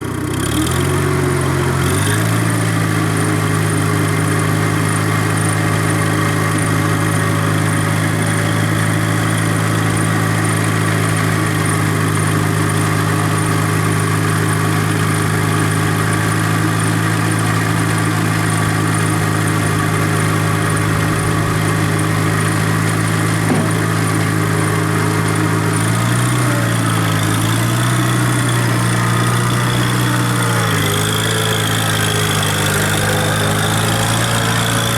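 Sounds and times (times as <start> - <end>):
skid steer engine running: 0.0 - 34.9.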